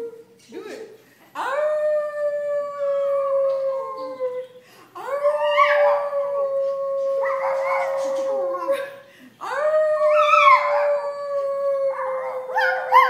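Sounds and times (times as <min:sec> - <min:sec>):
dog howling: 0:01.4 - 0:13.0.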